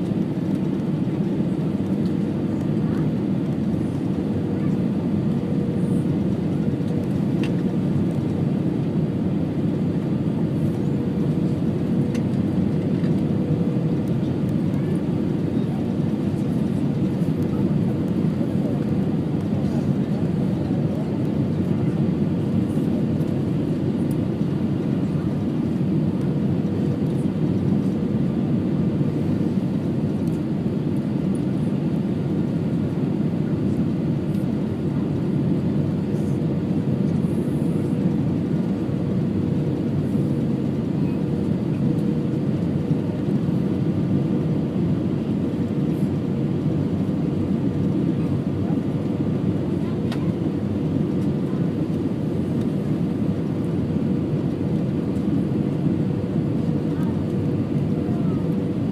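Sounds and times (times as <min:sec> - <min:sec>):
aircraft cabin engine rush: 0:00.0 - 0:58.9.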